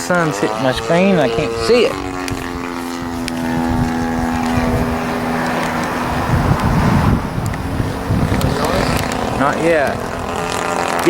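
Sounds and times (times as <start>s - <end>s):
model plane engine droning: 0.0s - 11.0s
wind buffeting microphone: 0.0s - 11.0s.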